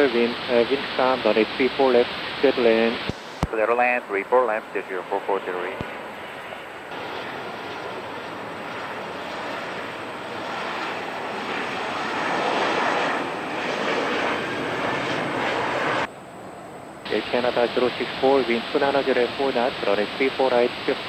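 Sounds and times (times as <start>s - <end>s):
jet engines of landing airliner: 0.0s - 21.0s.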